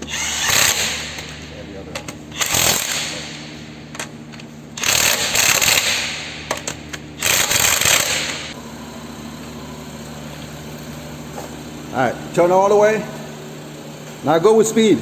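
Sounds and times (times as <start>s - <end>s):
impact wrench running: 0.0s - 15.0s
steady low hum: 0.0s - 15.0s.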